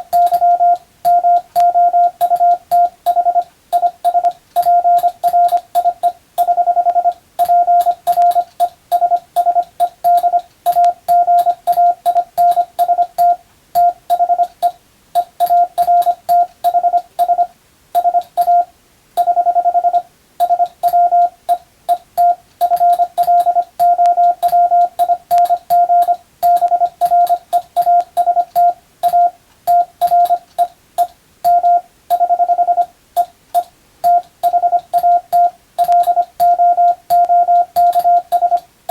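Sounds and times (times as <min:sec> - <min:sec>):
morse code beeps: 0:00.0 - 0:33.3, 0:34.0 - 0:38.6
faint keying clicks: 0:00.1 - 0:18.6, 0:19.2 - 0:38.9.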